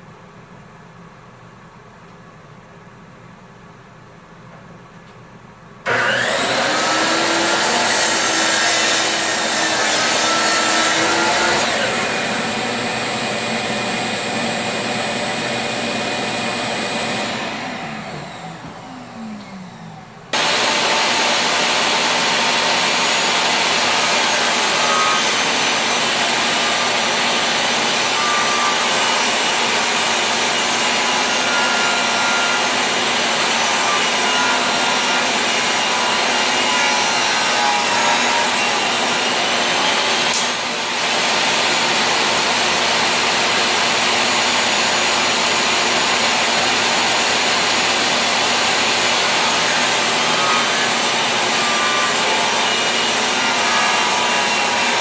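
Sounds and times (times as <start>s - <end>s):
power saw cutting wood: 5.9s - 55.0s.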